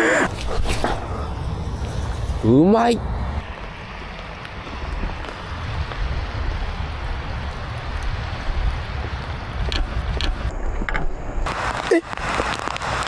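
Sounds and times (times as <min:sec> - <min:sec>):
wind rumbling on microphone: 0:00.0 - 0:13.0
steady rain: 0:01.2 - 0:10.5, 0:11.4 - 0:13.0.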